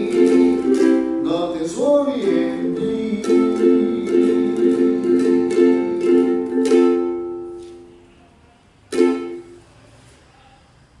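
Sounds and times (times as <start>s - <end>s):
ukulele strumming chords: 0.0s - 8.1s, 8.9s - 9.6s.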